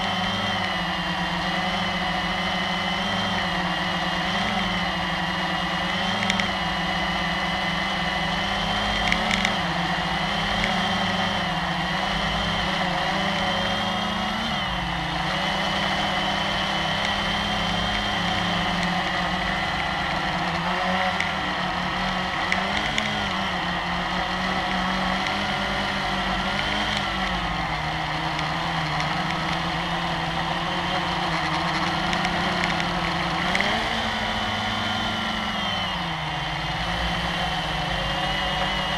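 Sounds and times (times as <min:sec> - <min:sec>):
quadcopter motors buzzing: 0:00.0 - 0:38.9.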